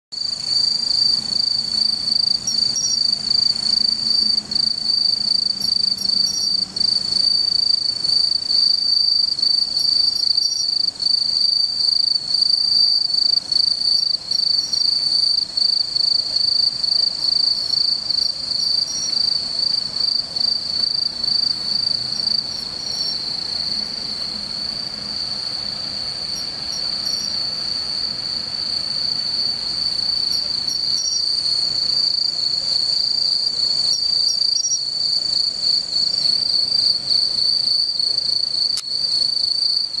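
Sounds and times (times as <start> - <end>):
crickets trilling: 0.1 - 40.0.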